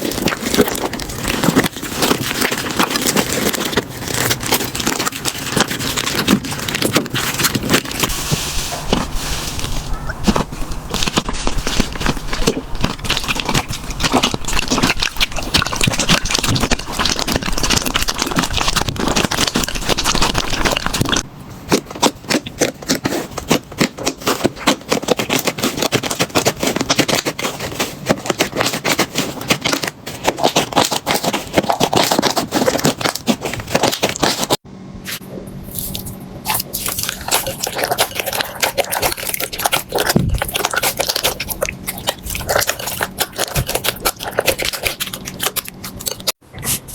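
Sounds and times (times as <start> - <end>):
slime crackling and popping: 0.0 - 34.6, 35.7 - 46.4.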